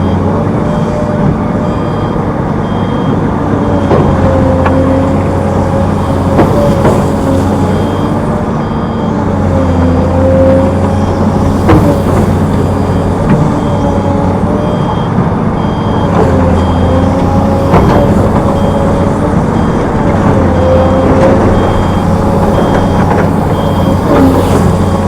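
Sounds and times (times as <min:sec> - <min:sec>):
diesel engine running: 0:00.0 - 0:25.0
reversing alarm beeping: 0:00.0 - 0:25.0.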